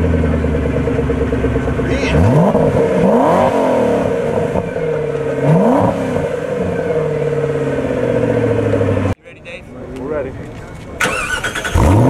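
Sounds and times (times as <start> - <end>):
car engine idling and revving: 0.0 - 9.2, 10.9 - 12.0.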